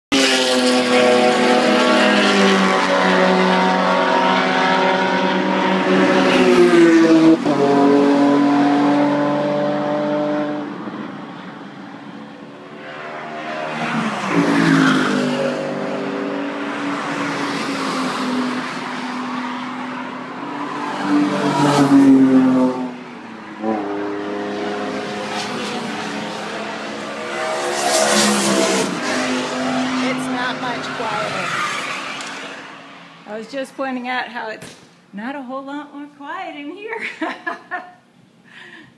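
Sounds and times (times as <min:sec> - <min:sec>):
race cars passing at speed: 0:00.1 - 0:35.1.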